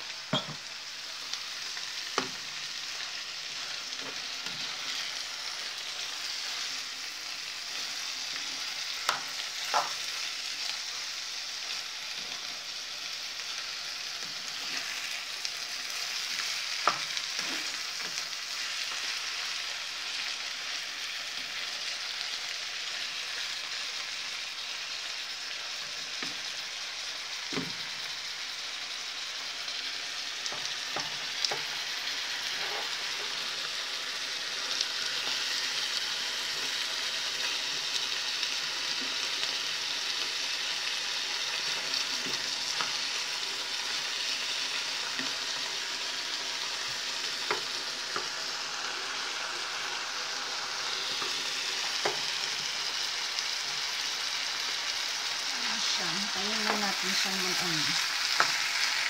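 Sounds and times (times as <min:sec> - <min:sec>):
meat and onions sizzling in a pan: 0:00.0 - 0:59.0.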